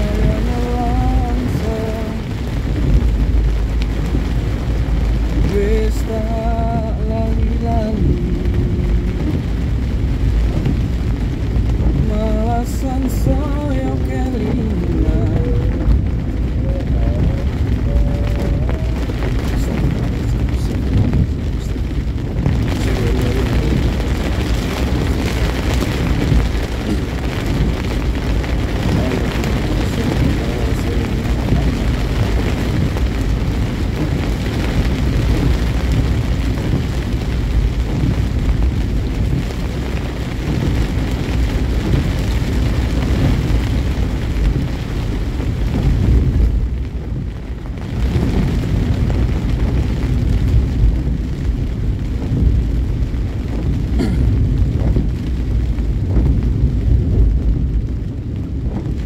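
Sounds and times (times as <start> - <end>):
vehicle road rumble: 0.0 - 59.0
wind buffeting microphone: 0.0 - 59.0.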